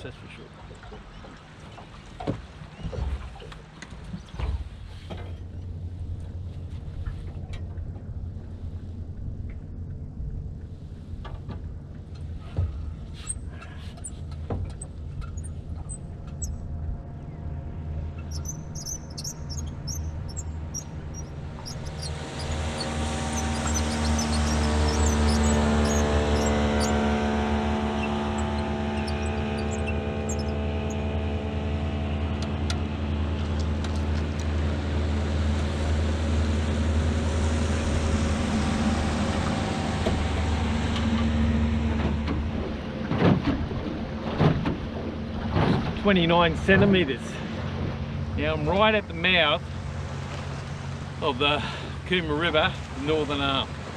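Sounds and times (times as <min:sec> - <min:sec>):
boat motor droning: 0:00.0 - 0:53.9
water and wind rushing: 0:00.0 - 0:53.9.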